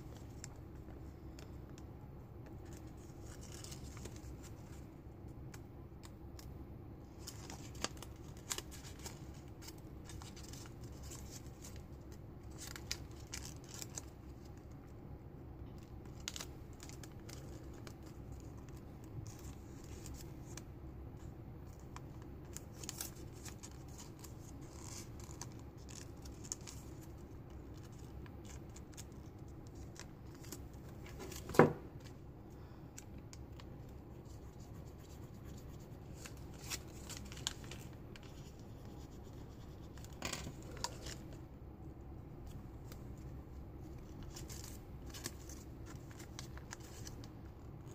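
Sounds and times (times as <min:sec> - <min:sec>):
steady low hum: 0:00.0 - 0:47.9
paper rustling and crinkling: 0:02.5 - 0:04.9, 0:07.1 - 0:14.8, 0:15.7 - 0:32.2, 0:33.0 - 0:41.4, 0:42.4 - 0:47.9.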